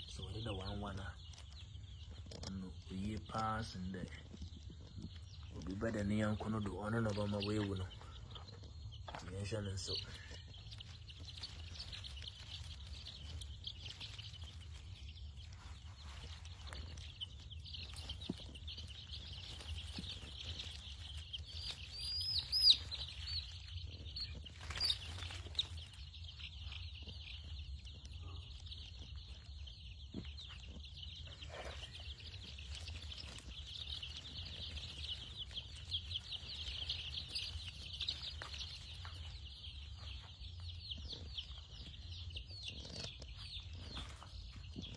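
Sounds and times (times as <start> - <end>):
chicks peeping: 0.0 - 44.9.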